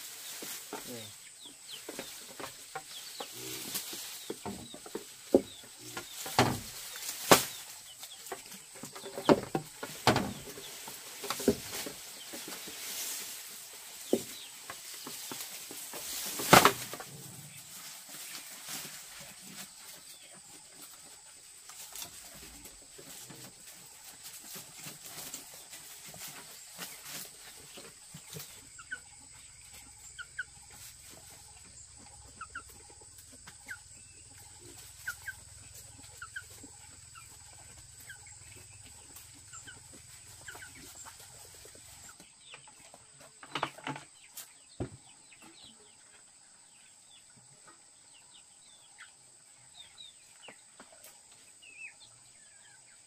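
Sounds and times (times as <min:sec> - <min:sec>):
poultry chirping: 0:00.1 - 0:53.0.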